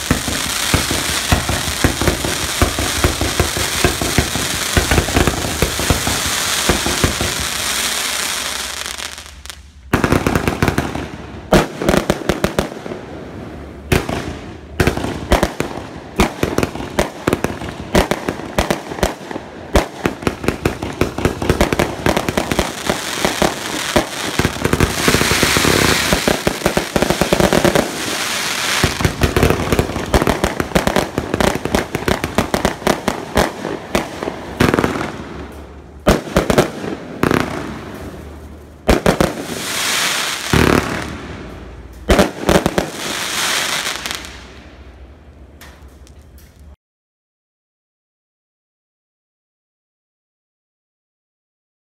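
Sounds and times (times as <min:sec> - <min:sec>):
fireworks crackling and banging: 0:00.0 - 0:46.8.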